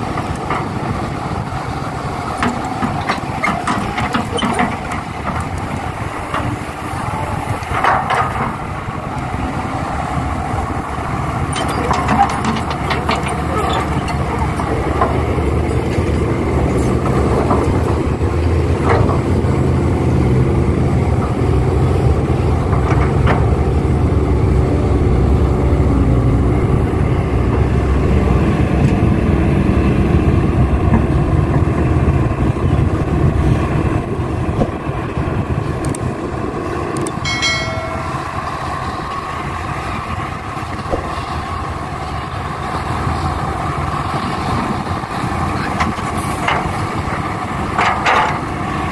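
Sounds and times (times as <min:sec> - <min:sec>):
diesel engines rumbling: 0:00.0 - 0:48.9.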